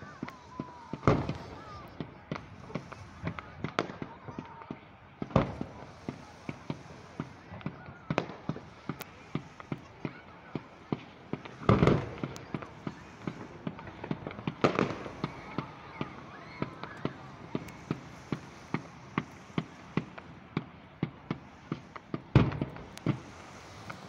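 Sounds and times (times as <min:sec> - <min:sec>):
fireworks bangs: 0:00.0 - 0:24.0
fireworks popping: 0:00.0 - 0:24.0.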